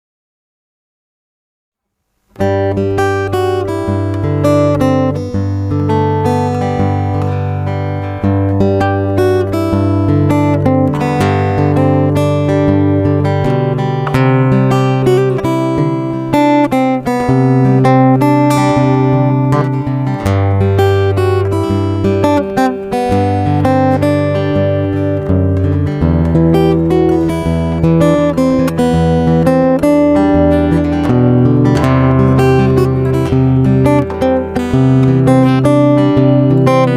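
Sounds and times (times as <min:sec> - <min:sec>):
acoustic guitar music: 0:01.9 - 0:36.9.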